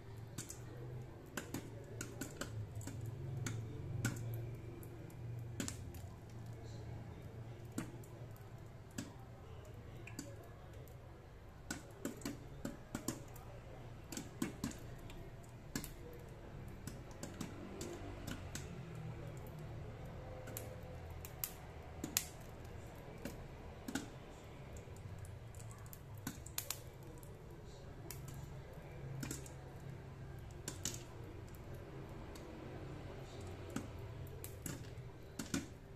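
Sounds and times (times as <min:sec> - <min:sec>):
popcorn popping: 0:00.0 - 0:35.9.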